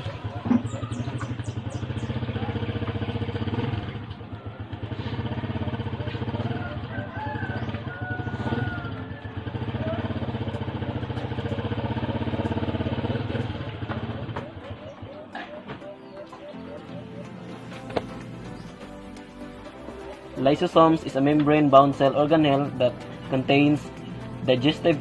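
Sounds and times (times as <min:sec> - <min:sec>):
engine running with fast pulse: 0:00.0 - 0:25.0.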